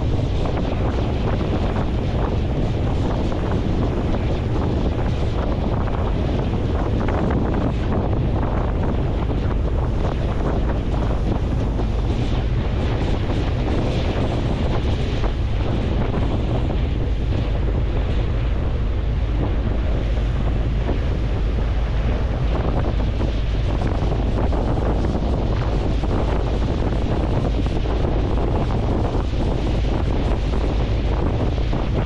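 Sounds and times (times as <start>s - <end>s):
ferry engine rumble: 0.0s - 32.0s
rushing water: 0.0s - 32.0s
wind buffeting microphone: 0.0s - 32.0s.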